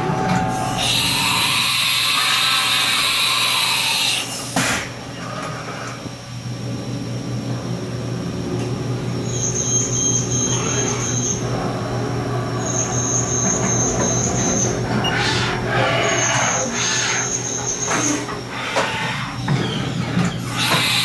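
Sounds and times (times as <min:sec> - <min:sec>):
high machine whine: 0:00.0 - 0:21.0
low machine hum: 0:00.0 - 0:21.0.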